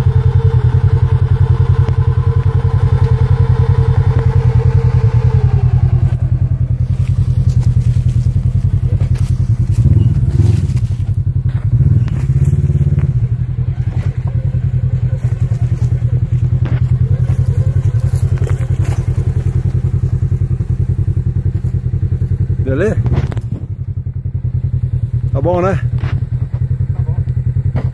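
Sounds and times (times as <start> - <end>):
engine running near idle: 0.0 - 27.9
engine throttle blips: 0.0 - 27.9.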